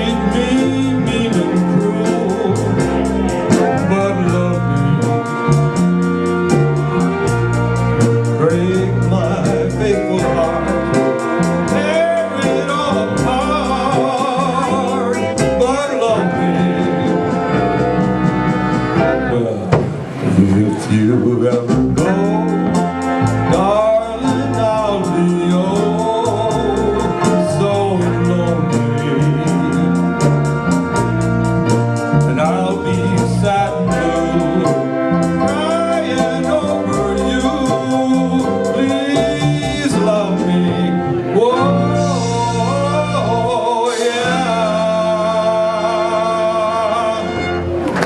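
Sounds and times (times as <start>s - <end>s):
person singing: 0.0s - 7.2s, 8.3s - 18.0s, 20.3s - 30.8s, 32.2s - 47.8s
steady drum beat: 0.0s - 40.8s
band playing: 0.0s - 48.0s.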